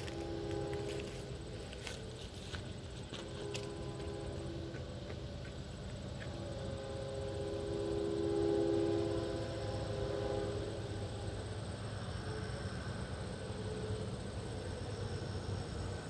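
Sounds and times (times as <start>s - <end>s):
distant locomotive horn: 0.0s - 16.0s
low steady rumble: 0.0s - 16.0s.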